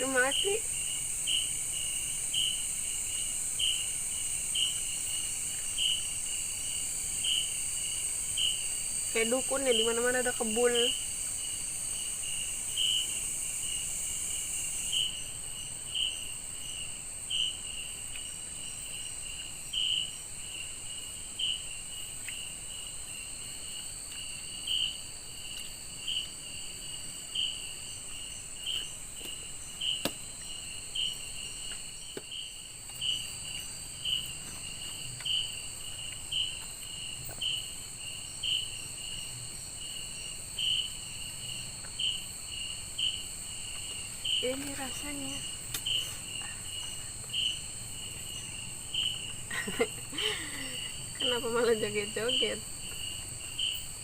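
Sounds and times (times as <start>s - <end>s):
insect chirping: 0.0s - 54.0s
insects droning: 0.0s - 54.0s.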